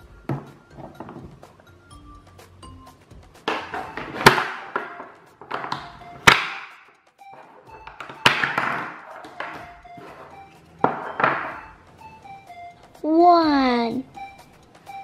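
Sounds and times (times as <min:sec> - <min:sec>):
light music: 0:00.0 - 0:15.0.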